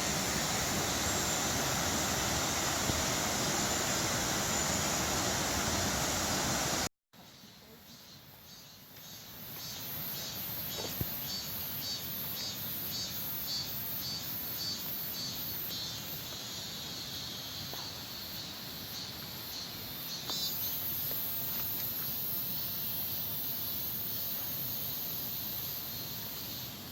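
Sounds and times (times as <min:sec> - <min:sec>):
insects pulsing and buzzing: 0:00.0 - 0:26.9.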